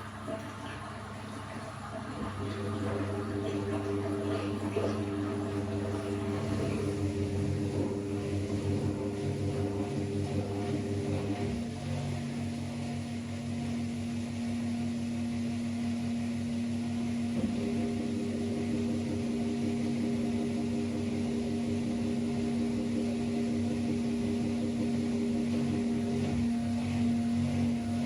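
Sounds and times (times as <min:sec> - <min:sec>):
washing machine motor humming: 0:00.0 - 0:28.0.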